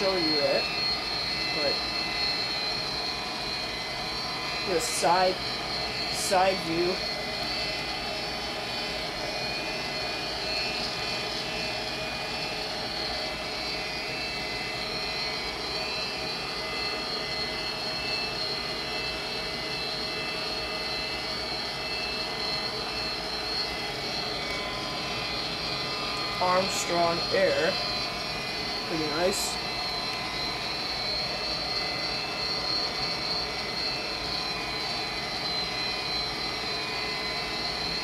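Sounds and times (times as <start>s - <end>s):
faint high whines: 0.0s - 38.0s
furnace blower whirring: 0.0s - 38.0s.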